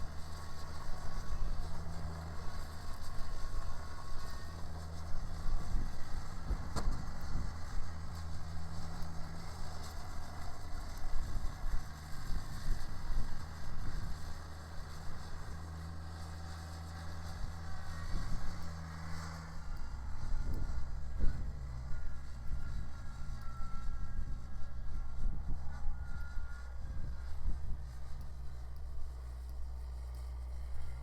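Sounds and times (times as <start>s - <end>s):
snowblower rushing: 0.0s - 31.0s
tractor diesel engine running: 0.0s - 31.0s.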